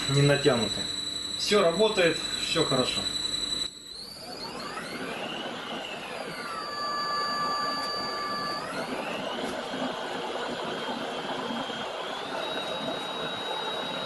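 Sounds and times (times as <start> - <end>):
electric motor whine rising: 0.0 - 14.0.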